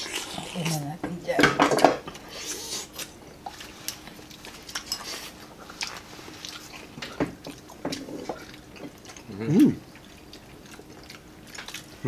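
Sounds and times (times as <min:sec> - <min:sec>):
faint steady hum: 0:00.0 - 0:12.0
wet chewing and lip-smacking: 0:02.1 - 0:12.0.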